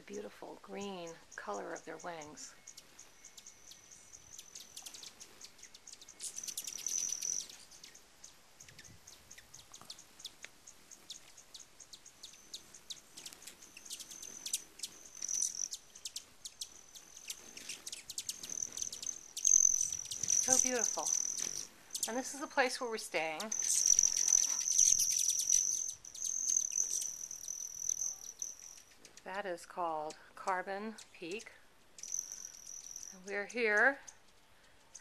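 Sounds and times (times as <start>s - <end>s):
hummingbird wings buzzing: 0.0s - 29.3s, 30.8s - 35.0s
hummingbird chip calls: 0.0s - 35.0s.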